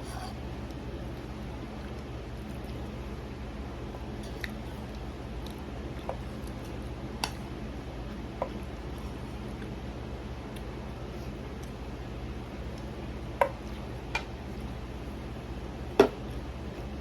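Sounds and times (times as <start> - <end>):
soft chewing: 0.0 - 15.6
room hum: 0.0 - 17.0.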